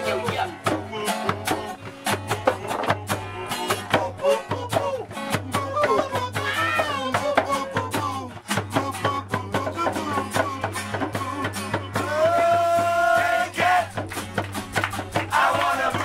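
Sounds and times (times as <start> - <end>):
man singing: 0.0 - 14.0, 15.2 - 16.0
strummed acoustic guitar: 0.0 - 16.0.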